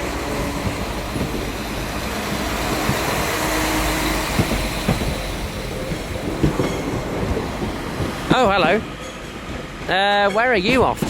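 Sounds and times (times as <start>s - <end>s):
train wheels rumbling: 0.0s - 11.0s
clunks over rail joints: 0.2s - 11.0s.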